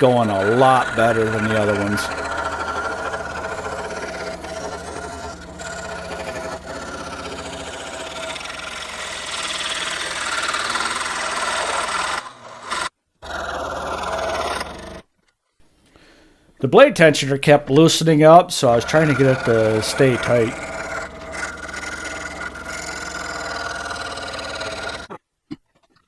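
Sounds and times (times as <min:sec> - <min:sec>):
scroll saw cutting wood: 0:00.0 - 0:15.1, 0:15.9 - 0:25.2.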